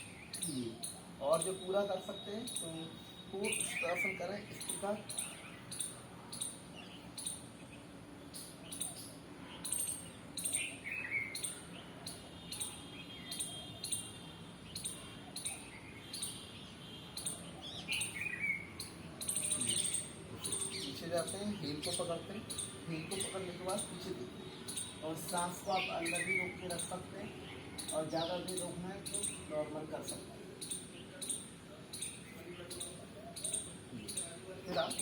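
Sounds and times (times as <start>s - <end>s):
birds chirping: 0.0s - 35.0s
low steady background noise: 0.0s - 35.0s.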